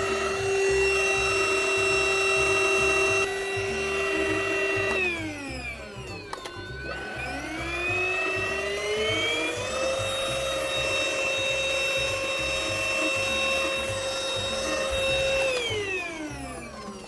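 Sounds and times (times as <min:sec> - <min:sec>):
vacuum motor whining: 0:00.0 - 0:17.0.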